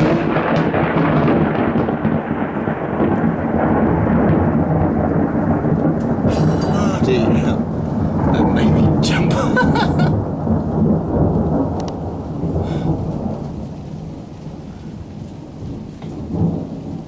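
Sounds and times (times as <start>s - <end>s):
deep rolling thunder: 0.0s - 17.0s
steady rain: 0.0s - 17.0s.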